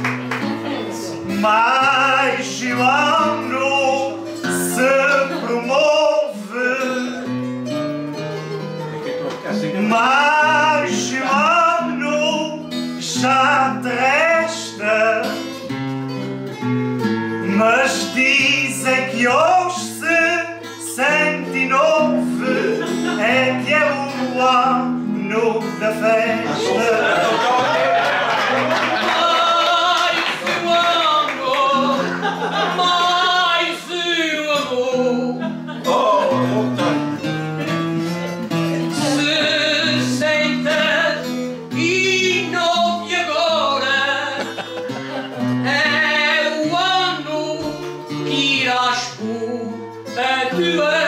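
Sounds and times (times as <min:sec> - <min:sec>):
plucked string accompaniment: 0:00.0 - 0:51.0
man singing: 0:00.6 - 0:07.8, 0:09.1 - 0:15.7, 0:17.3 - 0:51.0.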